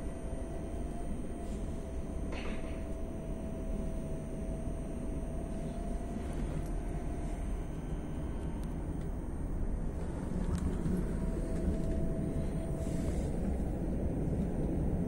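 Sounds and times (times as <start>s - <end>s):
electric train rumbling: 0.0s - 15.0s
faint steady whine: 0.0s - 15.0s.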